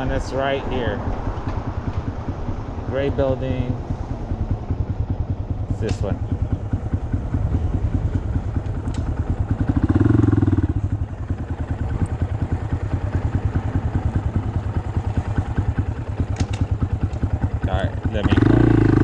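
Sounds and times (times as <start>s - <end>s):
small motorcycle engine running: 0.0s - 19.0s.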